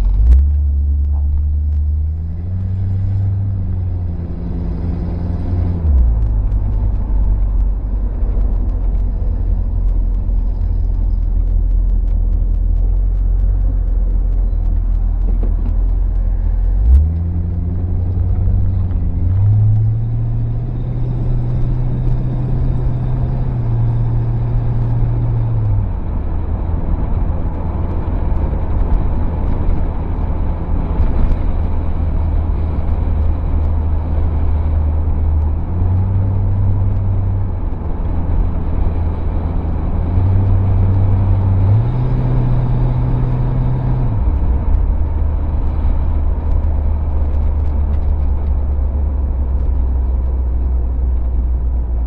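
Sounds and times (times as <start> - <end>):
car engine: 0.0 - 52.0
road noise: 0.0 - 52.0.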